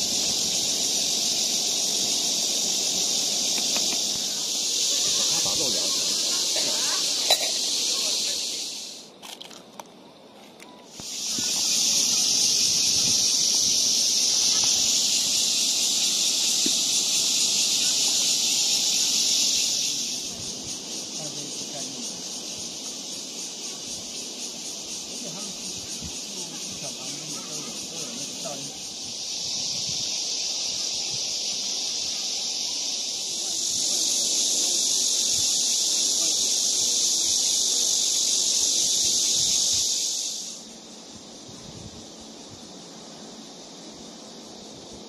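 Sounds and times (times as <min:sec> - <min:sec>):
shrill insect chorus: 0:00.0 - 0:45.0.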